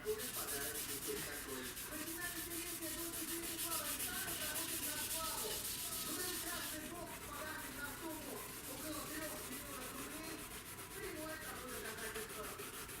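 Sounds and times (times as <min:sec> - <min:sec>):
abrasive pad rubbing car panel: 0:00.1 - 0:13.0.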